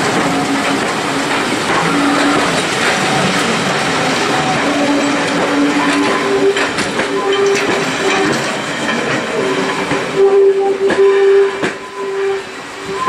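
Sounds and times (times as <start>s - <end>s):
wheels clicking over rails: 0.0s - 11.9s
train coaches rolling past: 0.0s - 13.0s
steady squealing tone: 1.7s - 13.0s.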